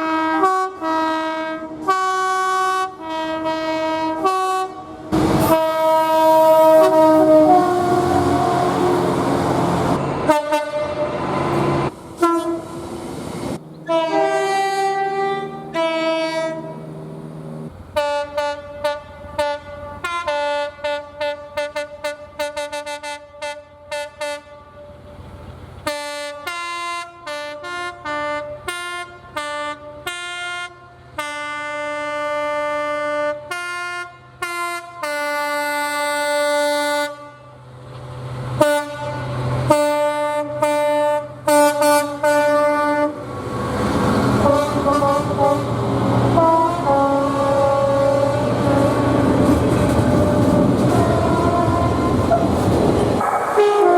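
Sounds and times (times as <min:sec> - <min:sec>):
train horn blasts: 0:00.0 - 0:12.8, 0:13.8 - 0:17.0, 0:17.9 - 0:25.0, 0:25.9 - 0:37.6, 0:38.6 - 0:43.2, 0:44.3 - 0:53.9
passing train: 0:00.0 - 0:53.9.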